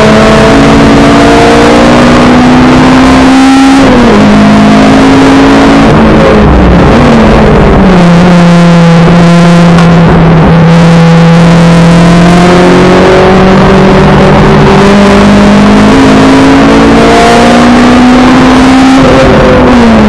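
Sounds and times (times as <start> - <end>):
race car engine revving: 0.0 - 20.0
road and wind noise: 0.0 - 20.0.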